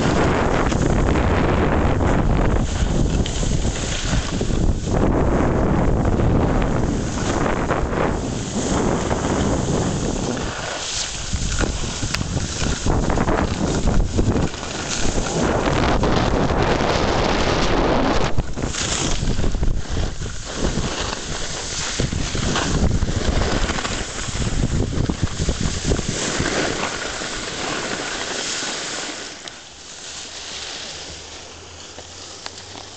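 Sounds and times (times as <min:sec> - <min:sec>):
wind buffeting microphone: 0:00.0 - 0:28.0
skis scraping on snow: 0:00.0 - 0:32.9.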